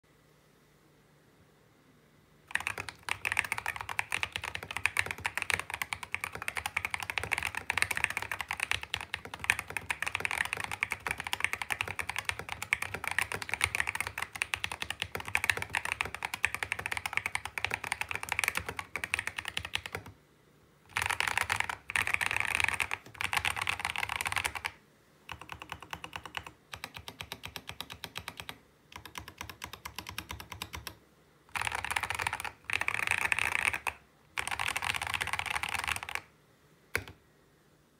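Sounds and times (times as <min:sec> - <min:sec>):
fast typing on mechanical keyboard: 0:02.5 - 0:20.2, 0:20.9 - 0:36.3, 0:36.9 - 0:37.2.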